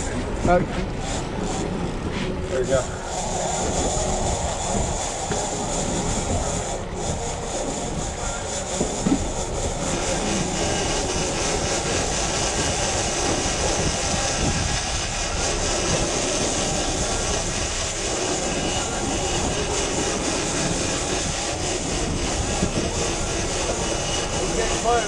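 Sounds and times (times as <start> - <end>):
boat engines running: 0.0 - 25.0
wind: 0.0 - 25.0.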